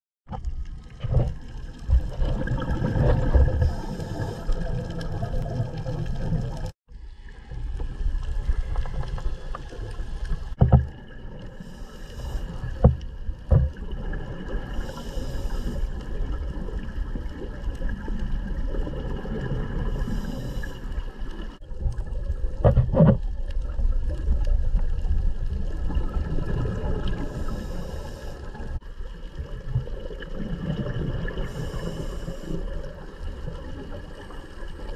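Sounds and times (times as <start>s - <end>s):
underwater low rumble: 0.3s - 34.9s.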